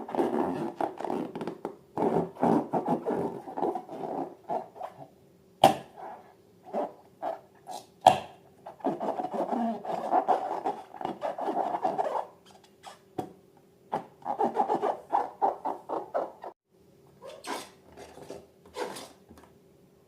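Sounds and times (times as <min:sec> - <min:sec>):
rubber balloons squeaking: 0:00.0 - 0:05.1, 0:05.9 - 0:07.8, 0:08.6 - 0:13.1, 0:13.9 - 0:16.6, 0:17.2 - 0:19.2.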